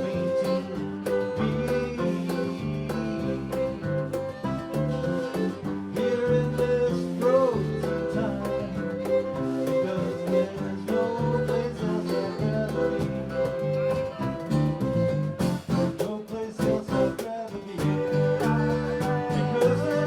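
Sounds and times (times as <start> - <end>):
person singing: 0.0 - 14.2, 15.8 - 20.0
fiddle: 0.0 - 16.0, 17.8 - 20.0
bass: 0.0 - 20.0
guitars: 0.0 - 20.0
percussion: 0.0 - 20.0.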